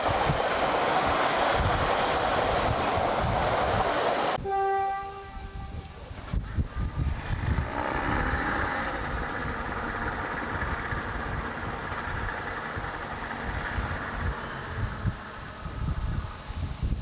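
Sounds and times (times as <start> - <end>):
diesel railcar engines running: 0.0 - 4.6, 5.2 - 17.0.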